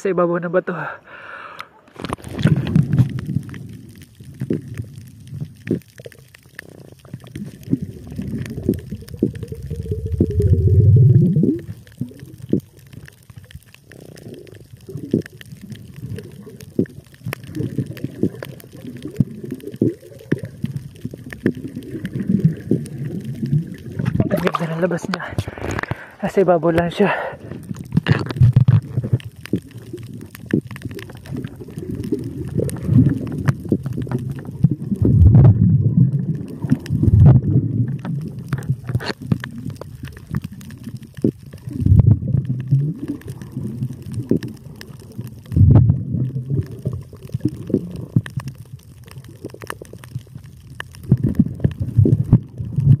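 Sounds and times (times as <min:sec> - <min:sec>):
underwater gurgling and sloshing: 0:01.1 - 0:53.0.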